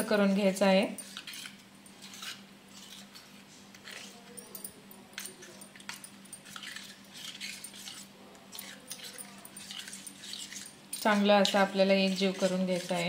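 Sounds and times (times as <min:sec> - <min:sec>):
spoon scraping and clinking bowl: 0:00.8 - 0:13.0.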